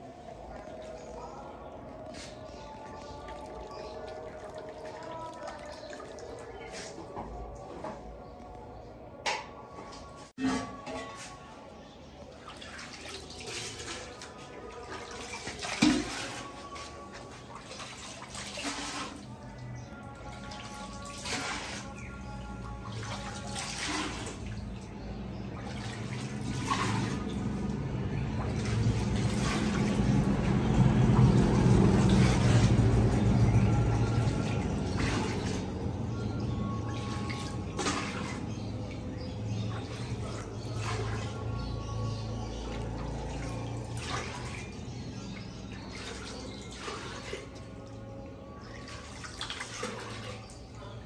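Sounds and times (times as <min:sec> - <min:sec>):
background music: 0:00.0 - 0:51.0
water running and splashing: 0:00.4 - 0:07.1, 0:12.2 - 0:51.0.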